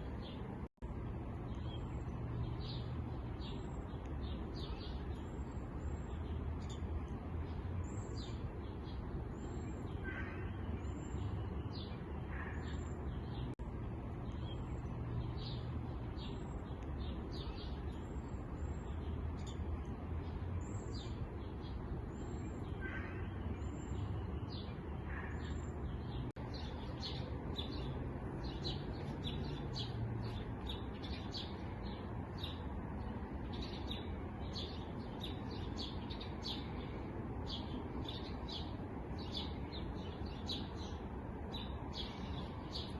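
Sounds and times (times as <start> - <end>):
songbirds chirping and twittering: 0.0 - 42.9.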